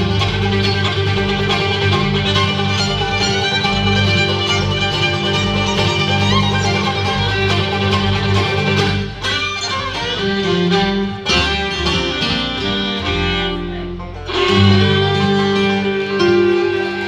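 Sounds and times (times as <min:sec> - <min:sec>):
banjo: 0:00.0 - 0:17.0
fiddle: 0:00.0 - 0:17.0
guitar: 0:00.0 - 0:17.0
mandolin: 0:00.0 - 0:17.0
upright bass: 0:00.0 - 0:17.0.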